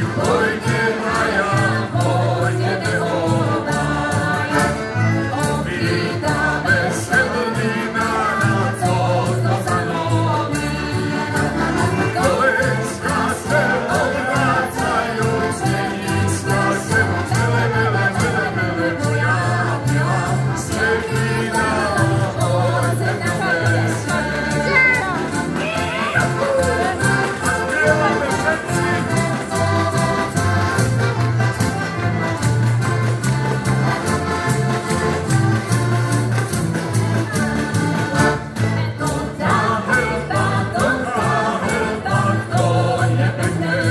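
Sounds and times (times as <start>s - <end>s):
people singing: 0.0s - 32.4s, 33.2s - 43.9s
button accordions playing folk song: 0.0s - 43.9s
jingle drum beat: 0.0s - 43.9s.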